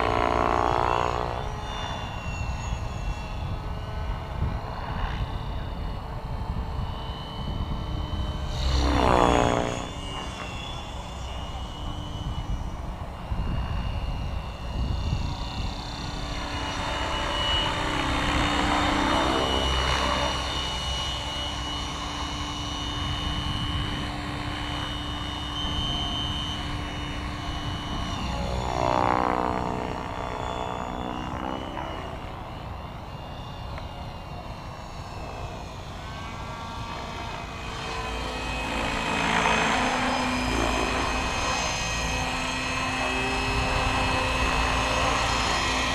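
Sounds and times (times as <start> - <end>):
rc helicopter motor whine: 0.0 - 45.9
rotor hum: 0.0 - 45.9.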